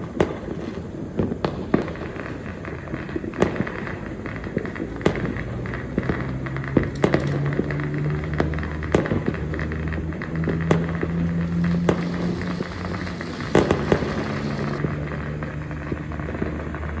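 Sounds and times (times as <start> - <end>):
firecrackers crackling: 0.0 - 17.0
fireworks bangs: 0.0 - 17.0.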